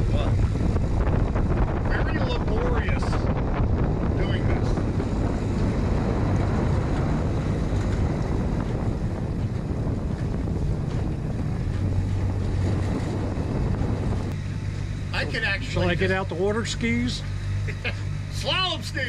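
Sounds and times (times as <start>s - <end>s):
outboard motor running: 0.0s - 19.0s
water washing past hull: 0.0s - 19.0s
wind buffeting microphone: 0.0s - 19.0s.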